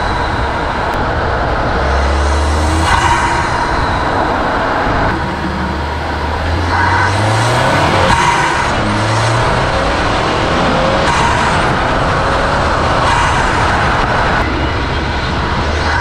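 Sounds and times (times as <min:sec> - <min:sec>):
car engine revving: 0:00.0 - 0:16.0
wind and road noise: 0:00.0 - 0:16.0.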